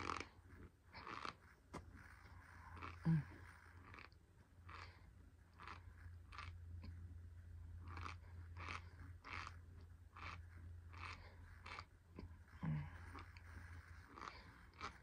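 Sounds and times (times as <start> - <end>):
chewing with soft crunches: 0.0 - 15.0.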